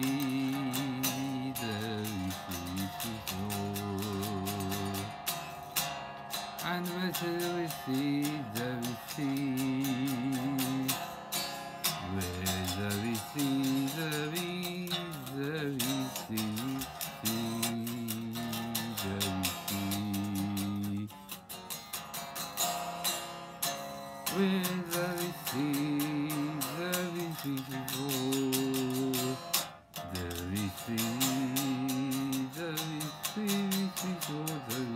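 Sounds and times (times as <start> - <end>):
electric guitar melody: 0.0 - 34.9.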